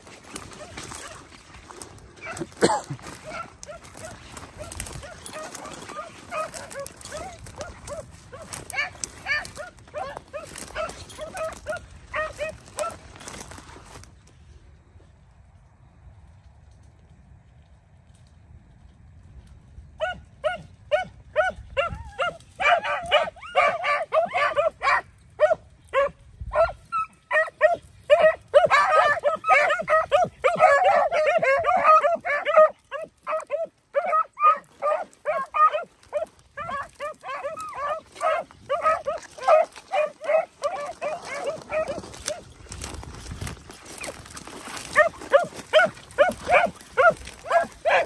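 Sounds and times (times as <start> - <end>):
beagles baying: 0.4 - 13.6, 20.0 - 48.0.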